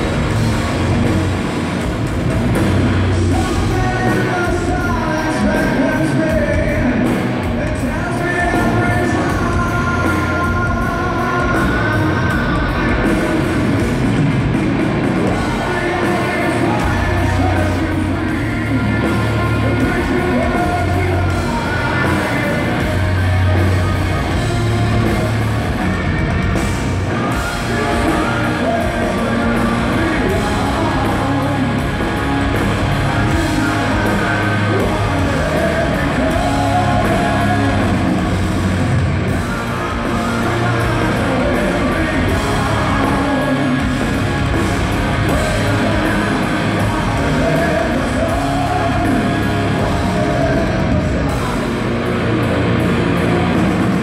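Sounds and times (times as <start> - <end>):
bass guitar: 0.0 - 54.0
drum kit: 0.0 - 54.0
electric guitars: 0.0 - 54.0
man singing: 3.1 - 13.8, 15.2 - 25.5, 27.0 - 54.0.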